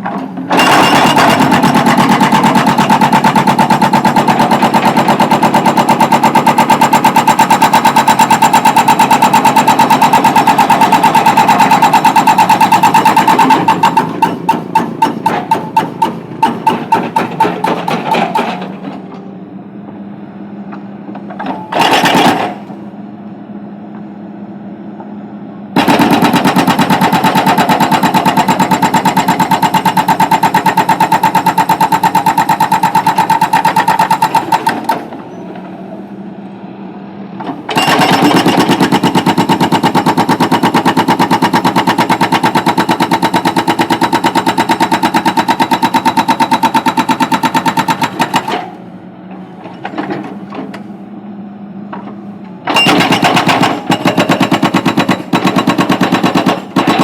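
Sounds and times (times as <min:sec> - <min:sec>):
hydraulic breaker hammering: 0:00.0 - 0:19.3, 0:20.7 - 0:22.8, 0:25.8 - 0:35.9, 0:37.4 - 0:51.0, 0:51.9 - 0:57.0
backhoe engine running: 0:00.0 - 0:57.0.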